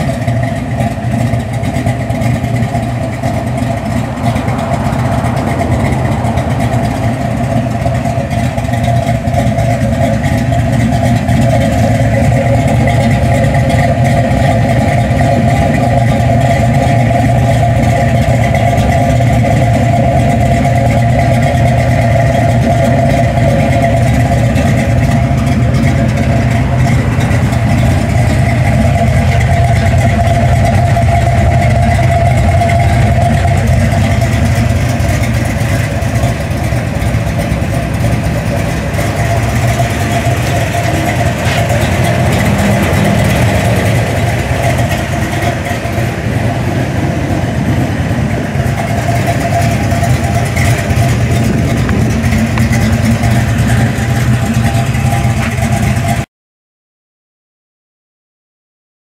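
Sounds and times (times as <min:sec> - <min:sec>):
car engine idling loudly: 0:00.0 - 0:56.3.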